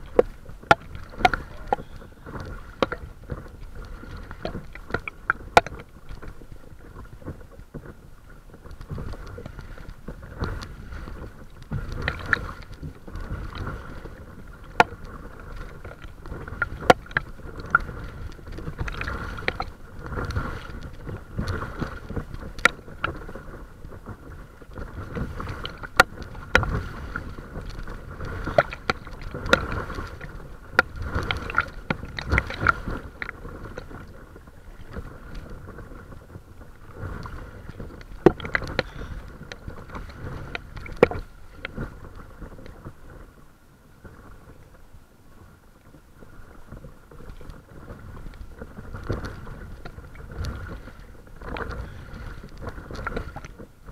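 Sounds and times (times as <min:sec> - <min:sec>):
water lapping and splashing: 0:00.0 - 0:53.9
wind rumble on microphone: 0:00.0 - 0:53.9.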